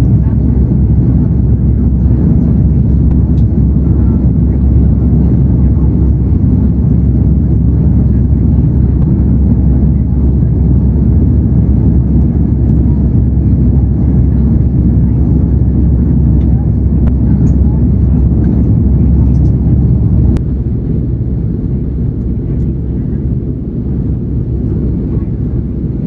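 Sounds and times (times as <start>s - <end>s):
aircraft cabin engine rumble: 0.0s - 26.0s
airflow noise: 0.0s - 26.0s.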